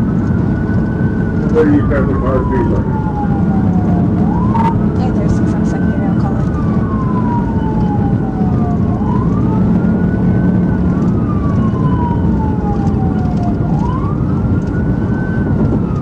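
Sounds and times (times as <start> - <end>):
police siren wailing: 0.0 - 16.0
road and engine noise: 0.0 - 16.0.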